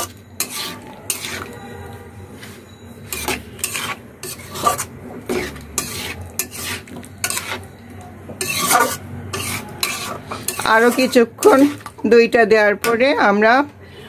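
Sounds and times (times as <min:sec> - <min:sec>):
metal spatula scraping a pot: 0:00.0 - 0:07.8, 0:08.4 - 0:12.0.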